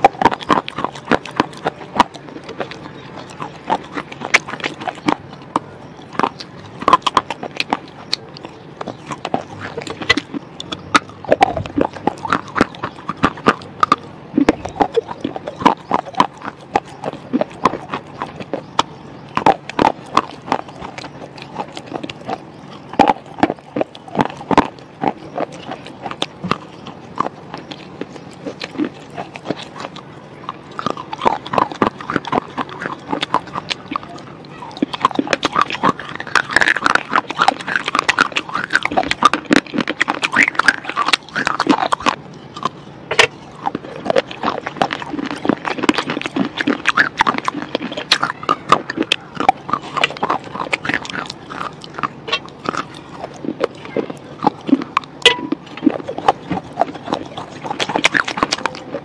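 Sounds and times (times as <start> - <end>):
slate being crunched and chewed: 0.0 - 59.0.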